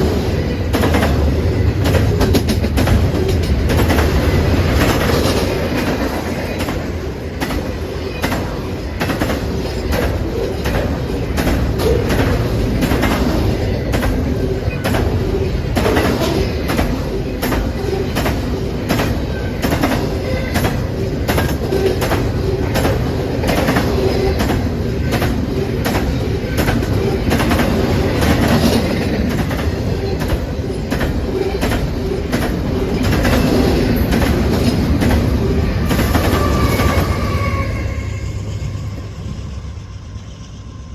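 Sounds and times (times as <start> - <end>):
train wheels clacking over rail joints: 0.0 - 37.6
train rolling rumble: 0.0 - 40.9.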